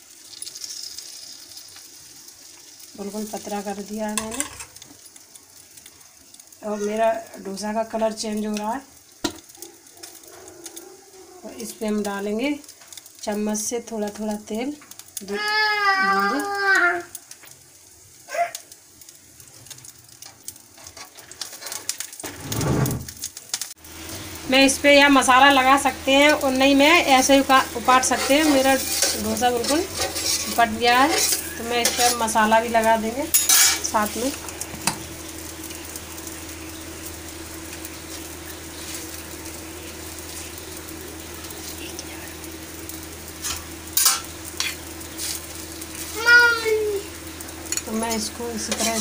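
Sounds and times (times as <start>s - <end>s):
faint crackles: 0.0s - 49.0s
oil sizzling on hot pan: 0.0s - 49.0s.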